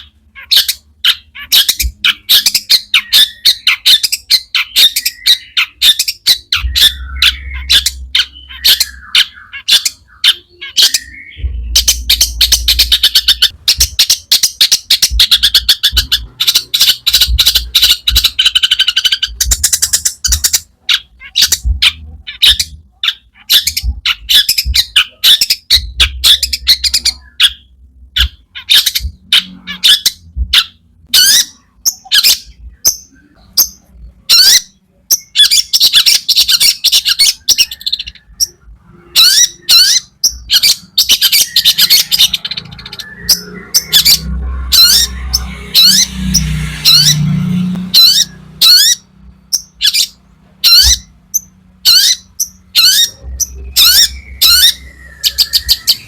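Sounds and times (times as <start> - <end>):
bird singing squawking notes: 0.0 - 56.0.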